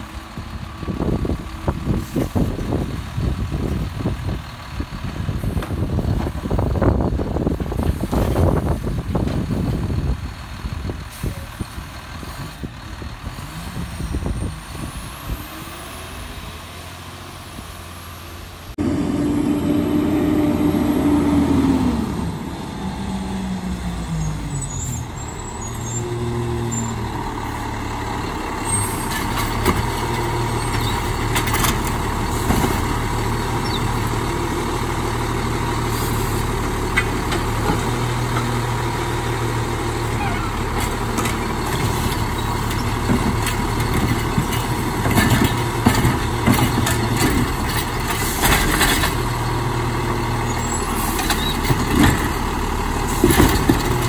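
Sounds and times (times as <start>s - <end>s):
garbage truck diesel engine: 0.0s - 54.0s.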